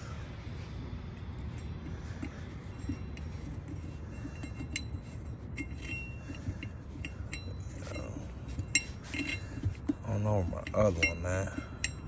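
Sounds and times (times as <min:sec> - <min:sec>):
steady low rumble: 0:00.0 - 0:12.0
metal parts clinking on wheel: 0:02.2 - 0:12.0.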